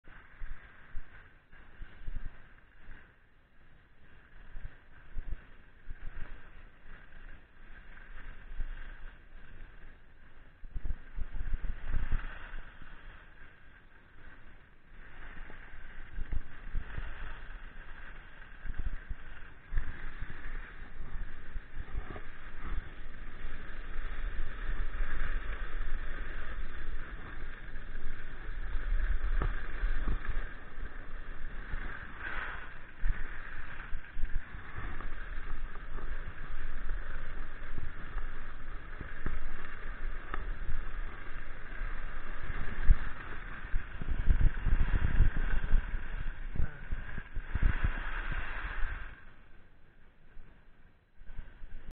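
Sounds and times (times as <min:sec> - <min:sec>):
wind buffeting microphone: 0:00.0 - 0:49.7
skis hissing over snow: 0:00.1 - 0:51.9.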